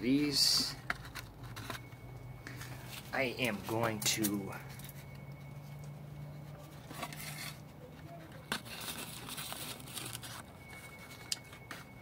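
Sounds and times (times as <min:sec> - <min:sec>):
low steady hum: 0:00.0 - 0:12.0
soft rustling and handling: 0:00.2 - 0:12.0.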